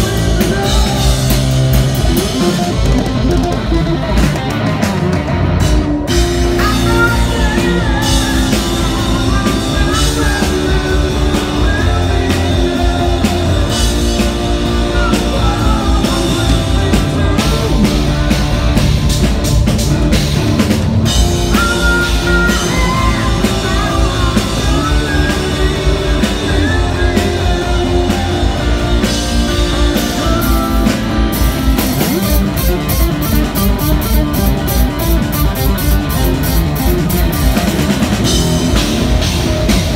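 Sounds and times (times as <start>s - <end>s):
electric guitar lead bending pitch: 0.0s - 39.9s
live rock band playing: 0.0s - 39.9s.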